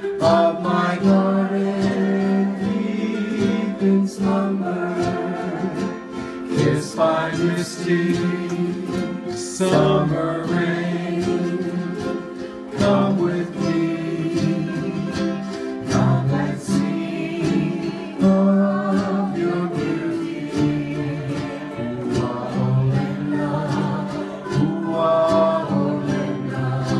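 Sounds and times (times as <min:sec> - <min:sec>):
ukuleles strumming: 0:00.0 - 0:26.9
woman singing: 0:00.1 - 0:26.9.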